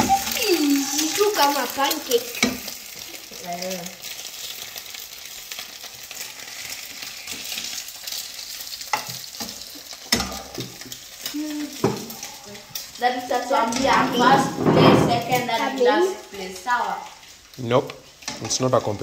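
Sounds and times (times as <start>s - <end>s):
egg sizzling in pan: 0.0s - 19.0s.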